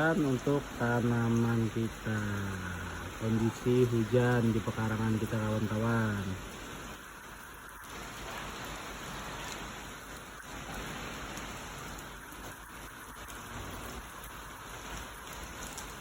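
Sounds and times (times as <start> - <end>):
rain falling on surfaces: 0.0 - 16.0.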